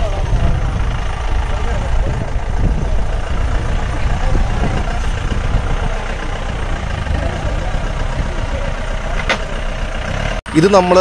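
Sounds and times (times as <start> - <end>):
jeep engine idling: 0.0 - 11.0.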